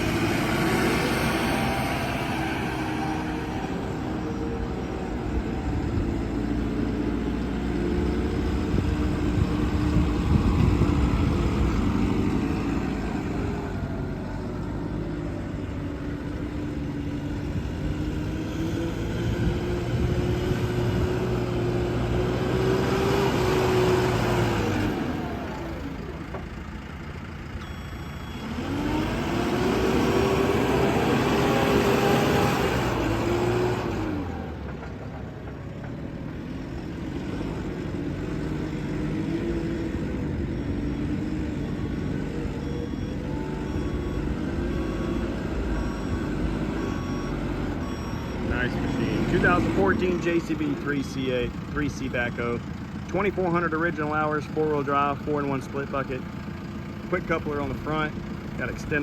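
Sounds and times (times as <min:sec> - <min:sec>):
diesel engine revving and idling: 0:00.0 - 0:59.0.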